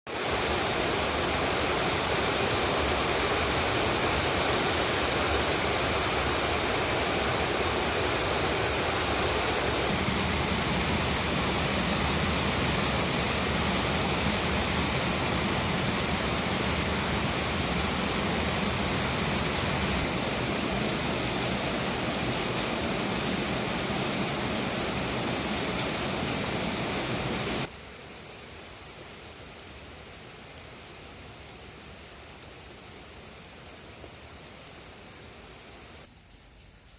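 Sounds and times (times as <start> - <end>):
heavy rain falling: 0.1 - 36.4.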